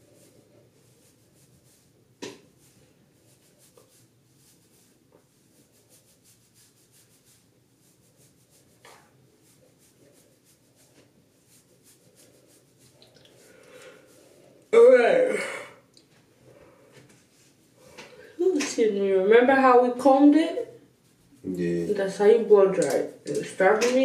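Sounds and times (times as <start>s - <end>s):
hands rubbing through hair: 0.0s - 14.7s, 17.0s - 24.0s.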